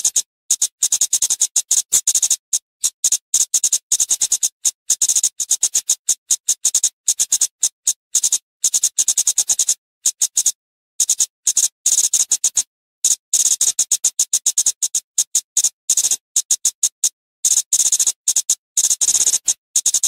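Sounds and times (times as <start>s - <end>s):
bird ticking calls: 0.0s - 20.0s.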